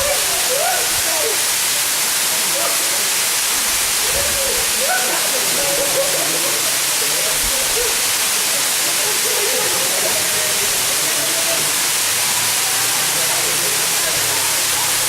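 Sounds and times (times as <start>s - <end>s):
waterfall pouring: 0.0s - 15.0s.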